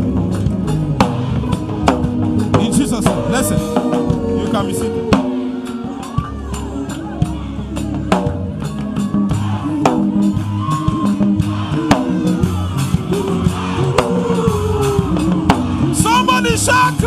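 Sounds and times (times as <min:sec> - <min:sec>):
drum kit beat: 0:00.0 - 0:17.0
live worship band music: 0:00.0 - 0:17.0.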